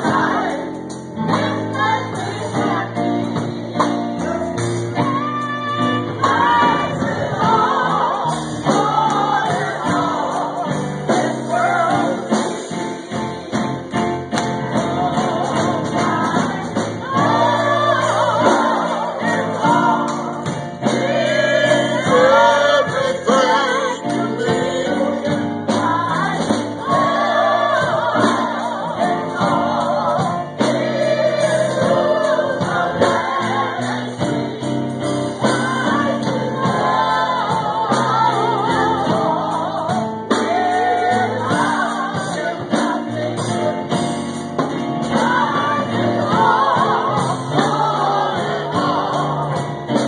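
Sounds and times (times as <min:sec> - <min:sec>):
gospel choir singing: 0:00.0 - 0:50.0.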